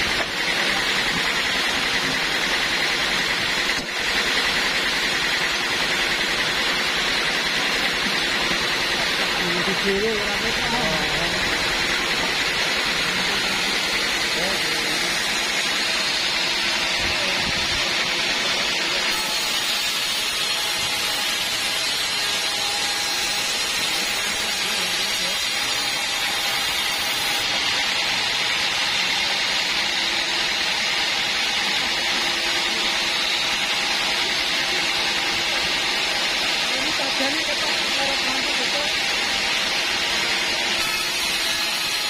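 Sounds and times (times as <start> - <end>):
band sawmill running: 0.0 - 42.0.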